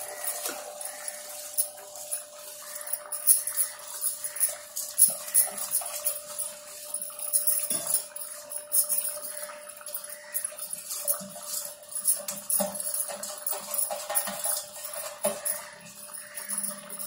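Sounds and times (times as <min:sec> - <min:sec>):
glass bangles clinking: 0:00.0 - 0:17.0.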